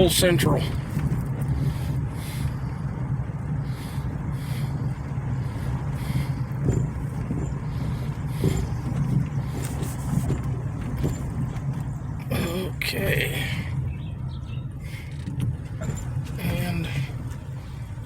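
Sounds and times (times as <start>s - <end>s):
engine and tyre hum: 0.0s - 18.0s.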